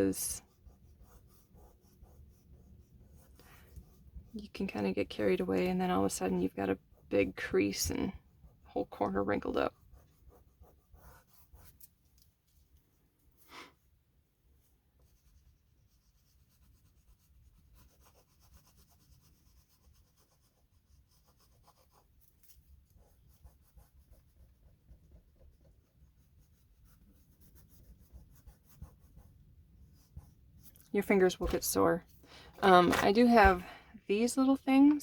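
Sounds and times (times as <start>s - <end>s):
oil pastel scratching on paper: 0.0s - 12.7s, 14.9s - 35.0s.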